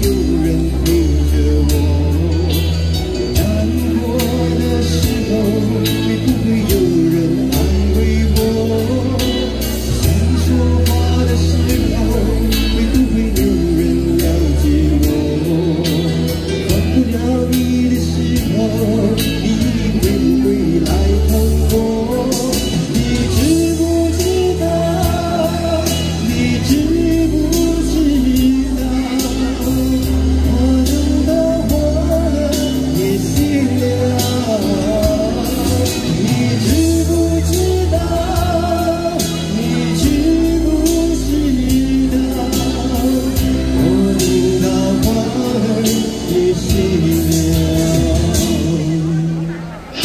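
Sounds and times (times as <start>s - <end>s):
backing track with bass and beat: 0.0s - 50.0s
man singing pop ballad: 0.0s - 50.0s.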